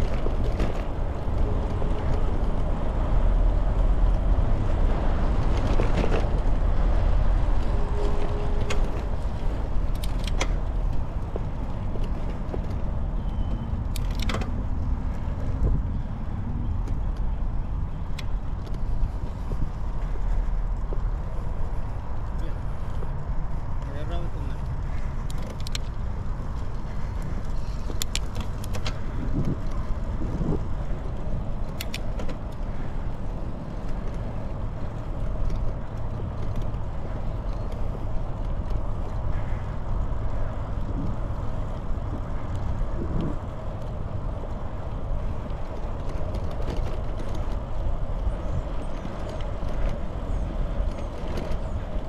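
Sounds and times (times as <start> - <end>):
bicycle tyres rolling on pavement: 0.0 - 52.0
wind rumbling on microphone: 0.0 - 52.0.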